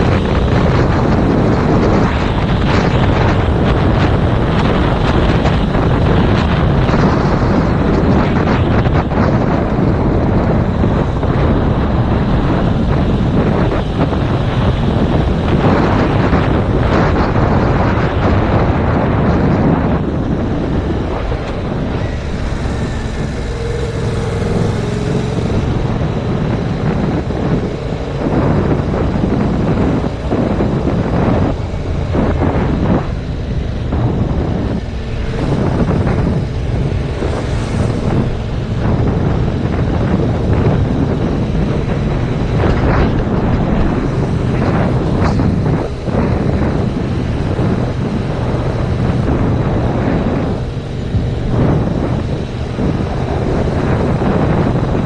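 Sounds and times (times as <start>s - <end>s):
motorcycle running: 0.0s - 55.0s
wind buffeting microphone: 0.0s - 55.0s.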